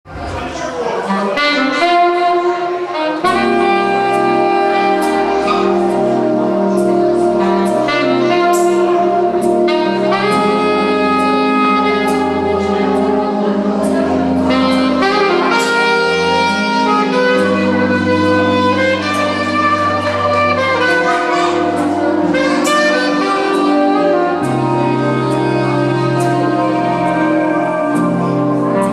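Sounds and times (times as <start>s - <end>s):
saxophone melody: 1.0s - 28.9s
backing track bass line: 1.5s - 28.9s.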